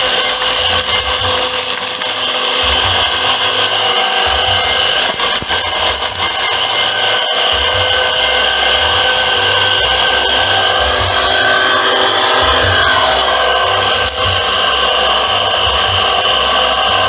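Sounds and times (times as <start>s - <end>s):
power tool whining: 0.0s - 17.0s.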